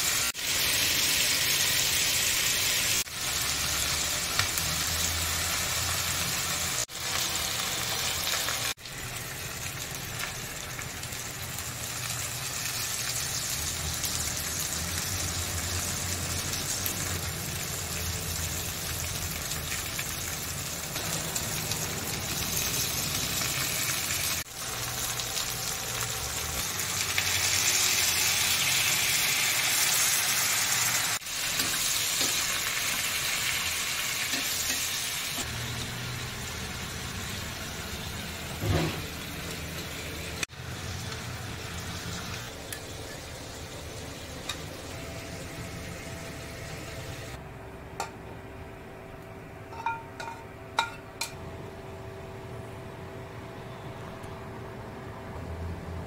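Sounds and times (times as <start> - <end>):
food sizzling in hot oil: 0.0 - 47.4.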